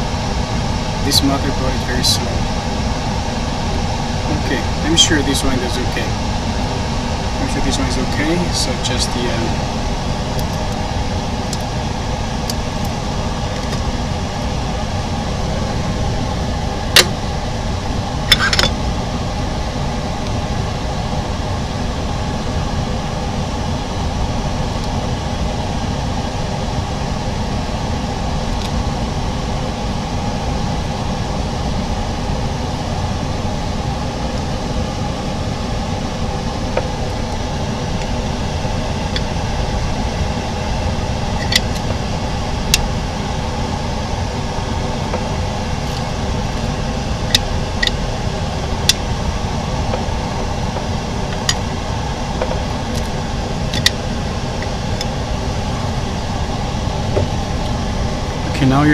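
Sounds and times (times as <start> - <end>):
workshop machinery humming: 0.0 - 58.9.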